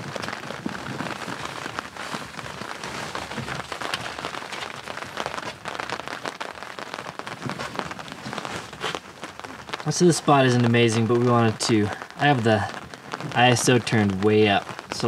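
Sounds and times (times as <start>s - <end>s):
rain pattering: 0.0s - 15.0s
raindrops ticking on surfaces: 0.0s - 15.0s.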